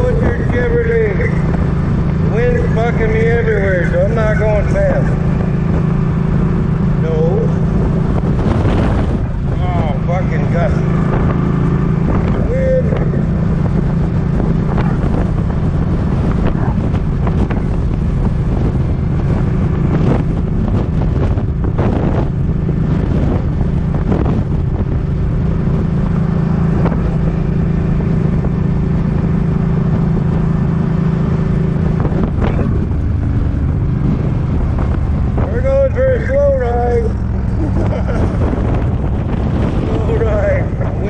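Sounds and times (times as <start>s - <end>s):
motorcycle engine cruising: 0.0s - 41.0s
wind buffeting microphone: 0.0s - 41.0s.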